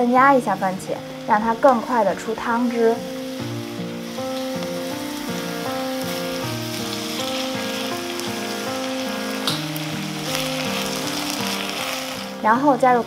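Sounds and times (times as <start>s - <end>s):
background music: 0.0s - 13.0s
vegetables sizzling in oil: 0.0s - 13.0s.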